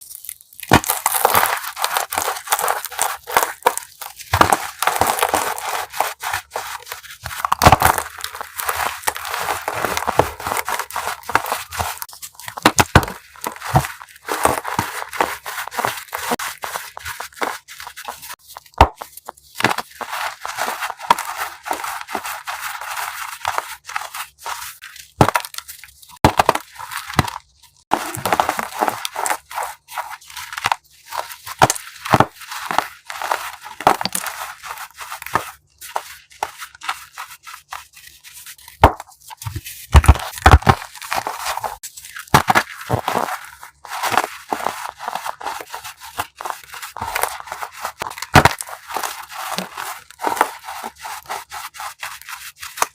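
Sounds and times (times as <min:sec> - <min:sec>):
chalk crushed by hand: 0:00.0 - 0:52.9.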